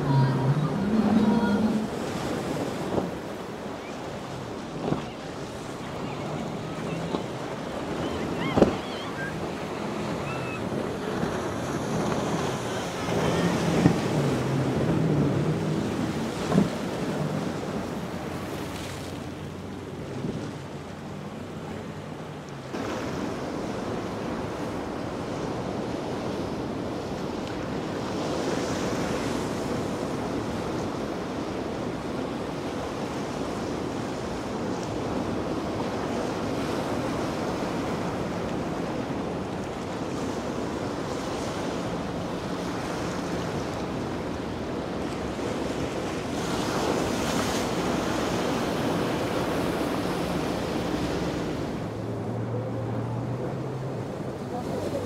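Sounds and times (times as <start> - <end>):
surf breaking and rushing: 0.0 - 55.0.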